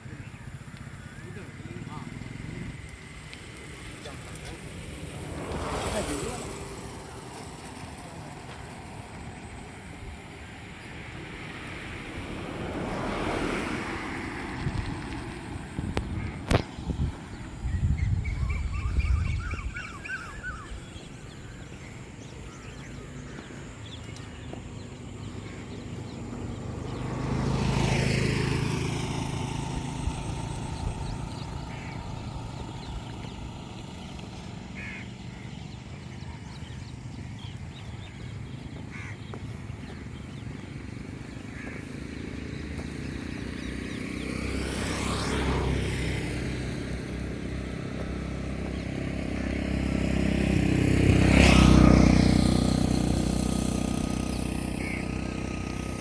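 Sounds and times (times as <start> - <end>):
vehicles driving past: 0.0 - 56.0.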